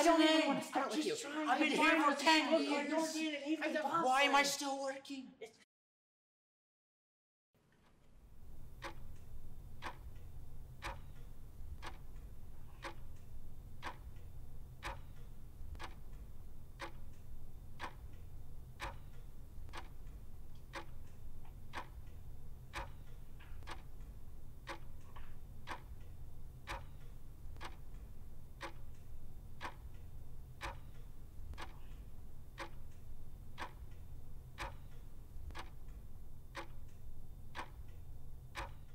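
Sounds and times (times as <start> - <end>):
low room hum: 7.6 - 38.9
wall clock ticking: 7.7 - 38.9.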